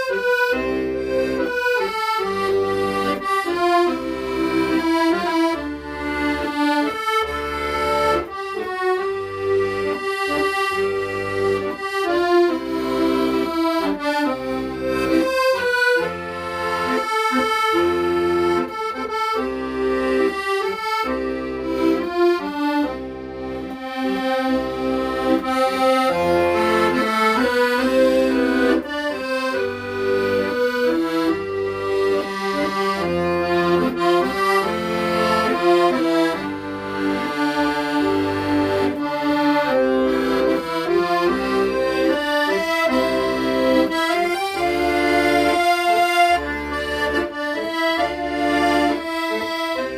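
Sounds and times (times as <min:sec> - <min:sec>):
accordion playing slow melody: 0:00.0 - 0:49.9.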